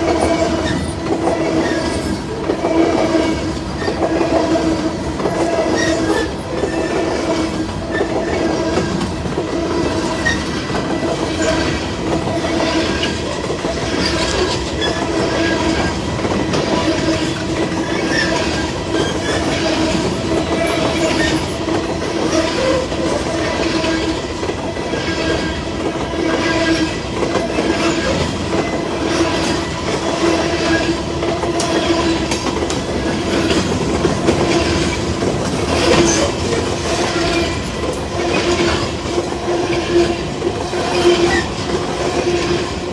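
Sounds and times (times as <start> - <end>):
ringing tone from wheels on rail: 0.0 - 42.9
train wheels clacking over rail joints: 0.0 - 42.9.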